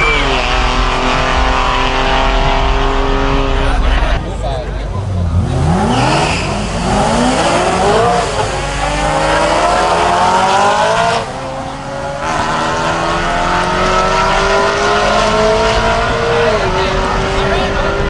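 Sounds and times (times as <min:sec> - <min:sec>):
cars accelerating hard: 0:00.0 - 0:18.0.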